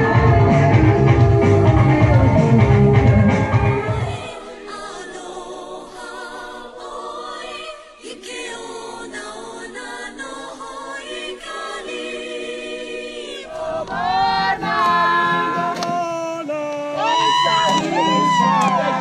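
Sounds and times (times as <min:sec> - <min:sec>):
choir singing a cappella: 0:00.0 - 0:02.6, 0:03.4 - 0:19.0.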